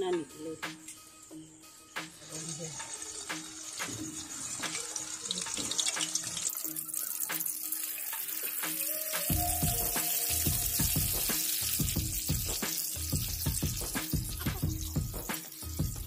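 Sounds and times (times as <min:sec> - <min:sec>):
vegetables sizzling in hot oil: 0:01.1 - 0:16.0
oil crackling and popping: 0:02.0 - 0:16.0.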